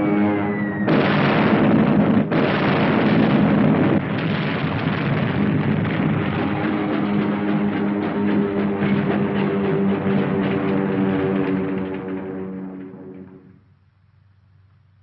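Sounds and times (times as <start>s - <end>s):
explosions on film soundtrack: 0.8s - 13.3s.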